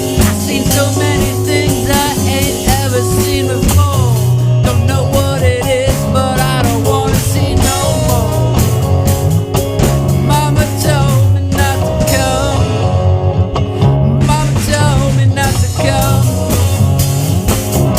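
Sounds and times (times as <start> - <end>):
bass guitar: 0.0 - 17.9
drum kit: 0.0 - 17.9.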